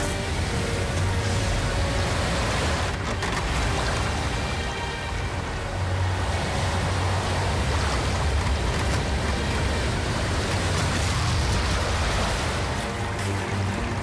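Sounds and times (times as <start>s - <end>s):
deep steady rumble: 0.0s - 14.0s
rain: 0.0s - 14.0s
waves surging and breaking: 0.0s - 14.0s.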